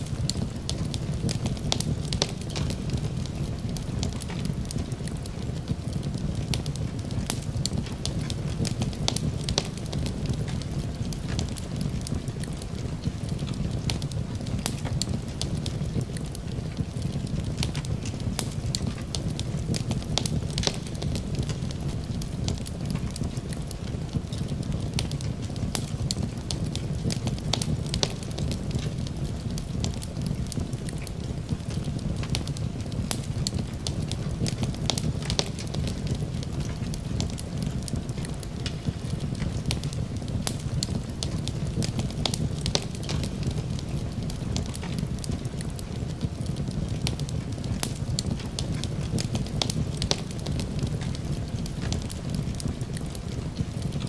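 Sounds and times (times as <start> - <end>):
rain: 0.0 - 54.0
wood fire crackling and popping: 0.0 - 54.0.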